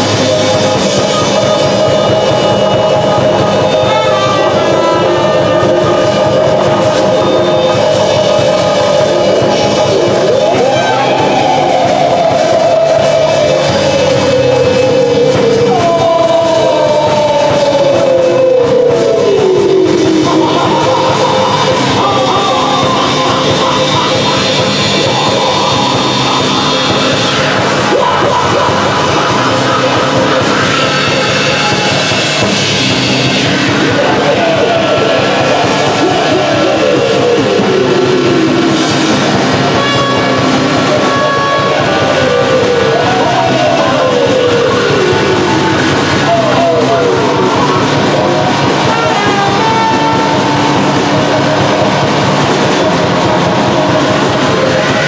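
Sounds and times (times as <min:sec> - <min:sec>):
loud space-rock band playing: 0:00.0 - 0:55.0
sliding notes falling in pitch: 0:00.0 - 0:55.0.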